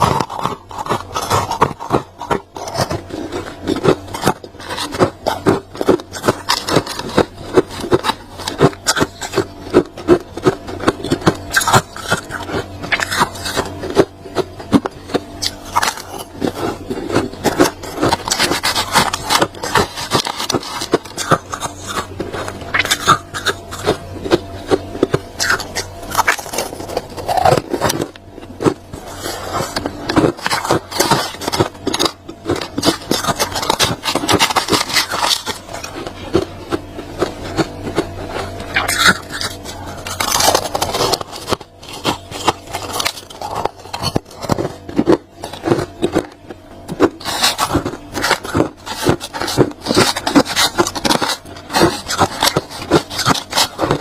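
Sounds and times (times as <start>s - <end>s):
freezer frost being scraped: 0.0s - 54.0s.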